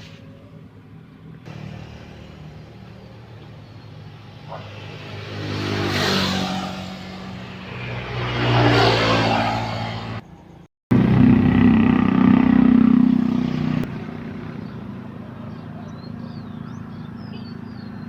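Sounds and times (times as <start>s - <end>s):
motor vehicle running: 0.0s - 18.0s.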